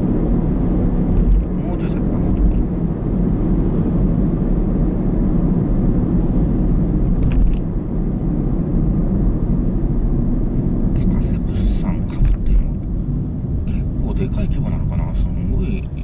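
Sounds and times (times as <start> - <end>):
car driving interior rumble: 0.0 - 16.0.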